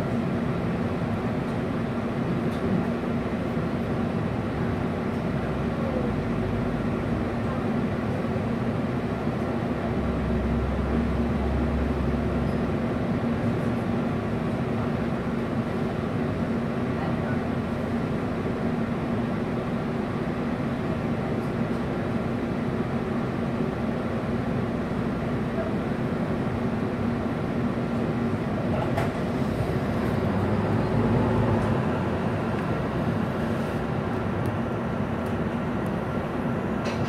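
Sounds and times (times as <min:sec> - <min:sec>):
bus diesel engine idling: 0:00.0 - 0:37.0.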